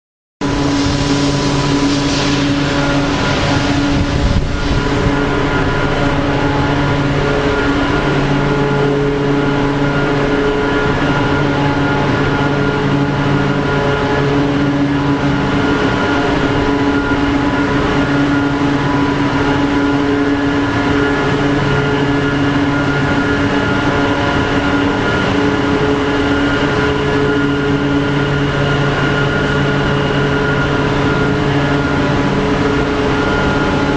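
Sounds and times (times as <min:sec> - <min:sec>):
air compressors droning: 0:00.4 - 0:33.9.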